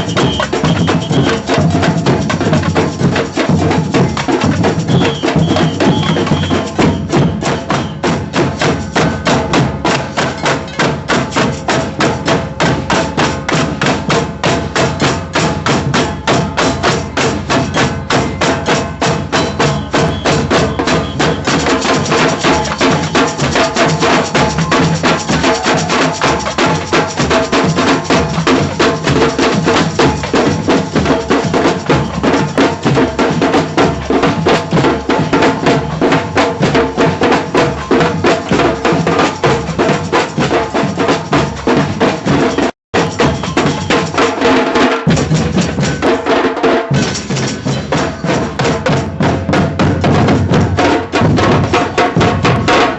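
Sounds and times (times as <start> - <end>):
drum band marching beat: 0.0 - 52.9.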